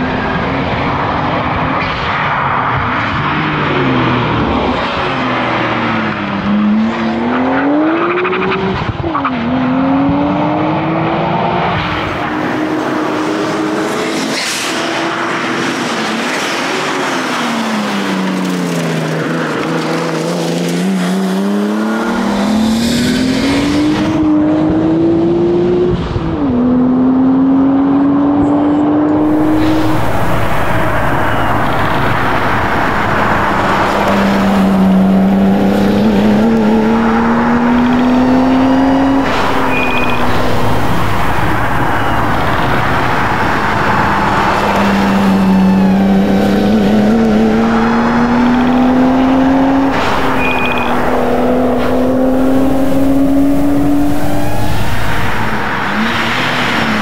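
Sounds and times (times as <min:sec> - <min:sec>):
car engine revving hard: 0:02.7 - 0:57.0.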